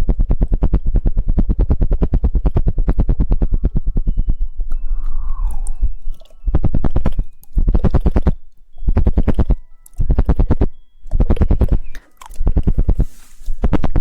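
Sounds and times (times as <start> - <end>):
rapid tongue clicking: 0.0 - 14.0.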